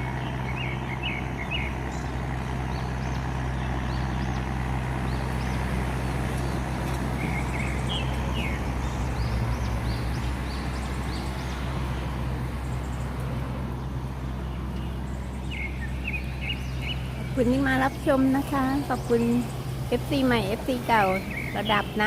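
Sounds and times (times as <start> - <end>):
birds chirping: 0.0 - 22.0
boat diesel engine running: 0.0 - 22.0.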